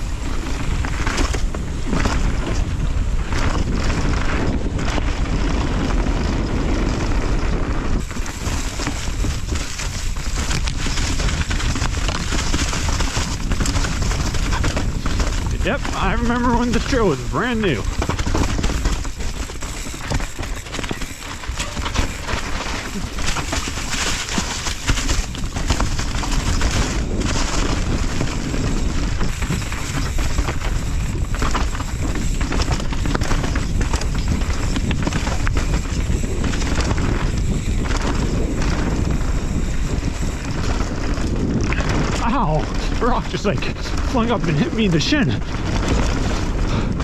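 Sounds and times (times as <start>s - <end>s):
bike rattling: 0.0s - 47.0s
tyres rolling over rock: 0.0s - 47.0s
wind on microphone: 0.0s - 47.0s.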